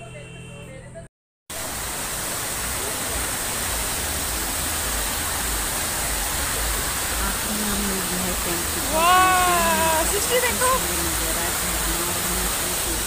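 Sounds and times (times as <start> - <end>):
waterfall rushing: 1.5 - 13.0.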